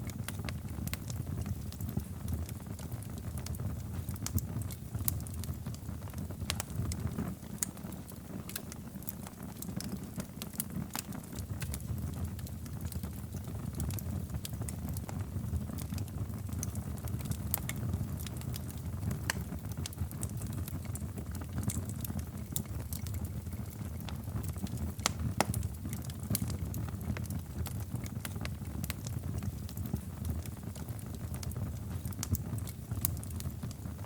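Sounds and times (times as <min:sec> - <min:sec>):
fire pops and crackles: 0:00.0 - 0:34.0
low rumble of flames: 0:00.0 - 0:34.0.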